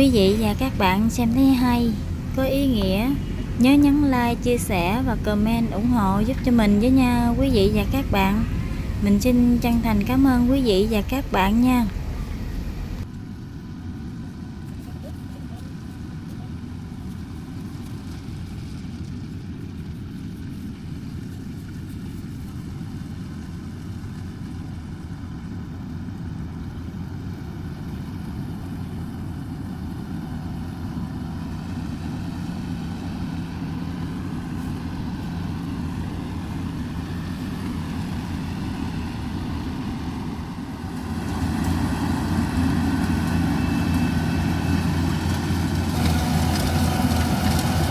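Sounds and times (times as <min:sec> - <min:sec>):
harvest machinery engines running: 0:00.0 - 0:47.9.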